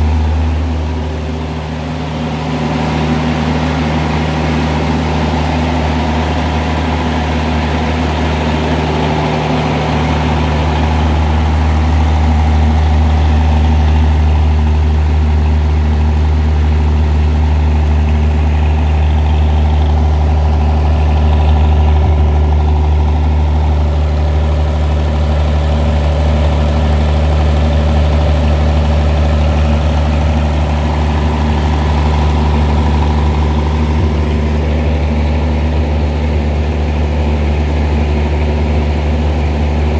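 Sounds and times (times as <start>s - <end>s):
gas engine humming: 0.0s - 39.9s.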